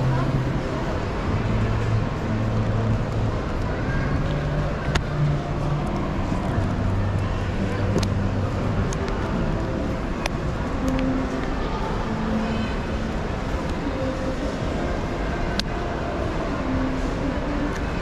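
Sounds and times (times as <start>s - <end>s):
crowd hubbub: 0.0s - 18.0s.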